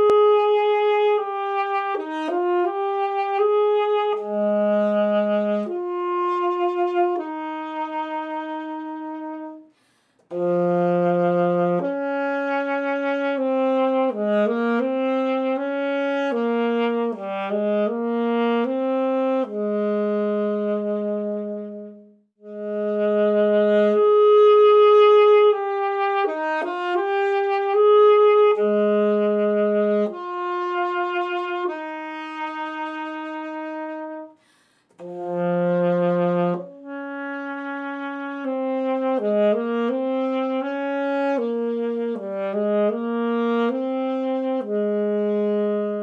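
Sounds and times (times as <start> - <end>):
alto saxophone melody: 0.0 - 46.0.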